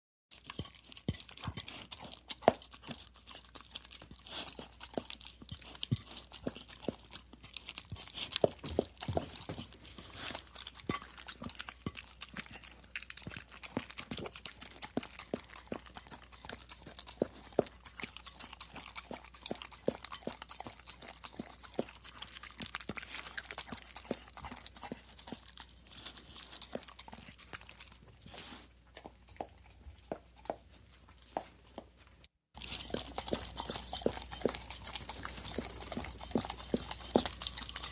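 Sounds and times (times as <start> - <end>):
dog licking a plate: 0.3 - 28.0, 32.6 - 37.9.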